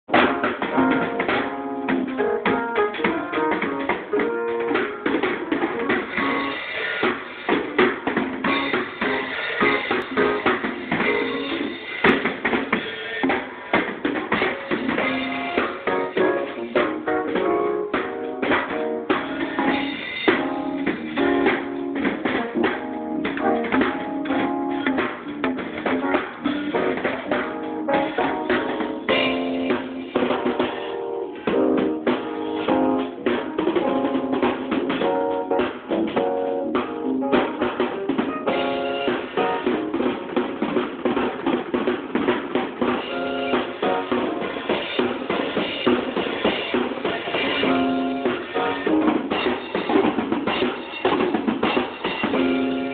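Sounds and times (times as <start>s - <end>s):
drum kit played fast: 0.0s - 52.9s
gospel backing music: 0.1s - 52.9s.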